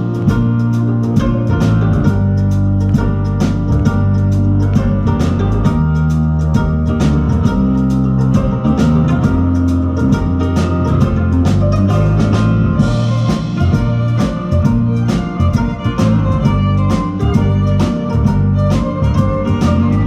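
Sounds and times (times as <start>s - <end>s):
held bass notes: 0.0s - 20.0s
steady drum beat: 0.0s - 20.0s.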